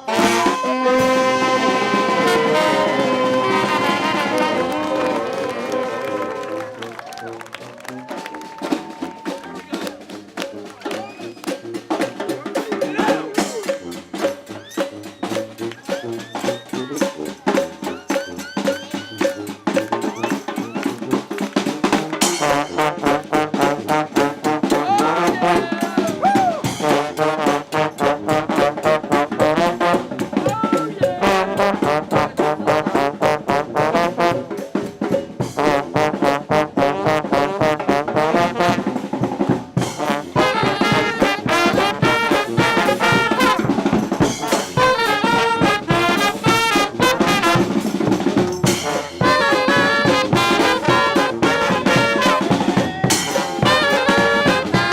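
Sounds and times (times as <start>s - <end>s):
steady drum beat: 0.0s - 6.0s, 8.0s - 54.9s
trombones and trumpets: 0.0s - 54.9s.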